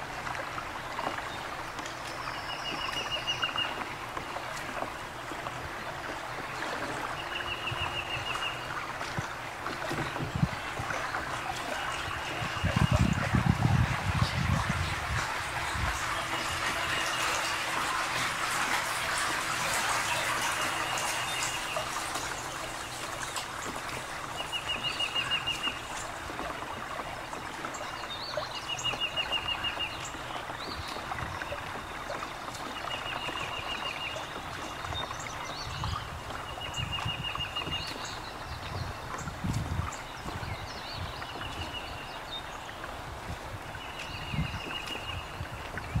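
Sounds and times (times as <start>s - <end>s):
water lapping and splashing: 0.0s - 46.0s.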